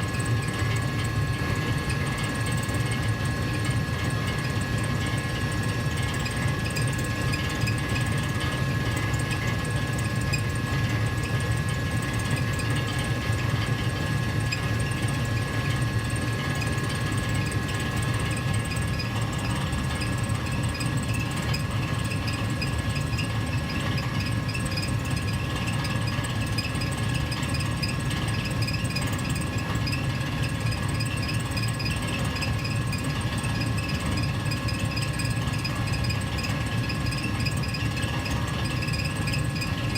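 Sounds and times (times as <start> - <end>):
gas furnace humming: 0.0 - 39.9.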